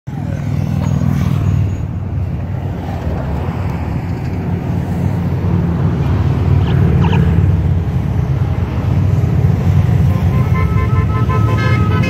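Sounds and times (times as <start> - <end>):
highway traffic rumble: 0.1 - 12.0
motorcycles passing: 0.1 - 12.0.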